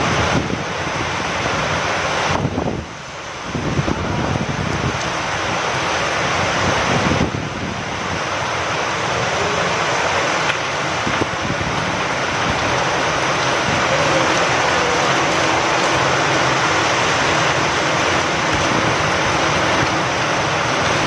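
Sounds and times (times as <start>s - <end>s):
low rumble of wind: 0.0s - 21.0s
steady rain falling: 0.0s - 21.0s.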